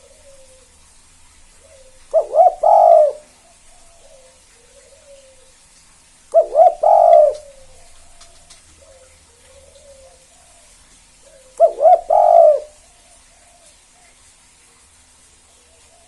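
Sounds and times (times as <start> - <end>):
dove cooing: 0.0 - 14.2.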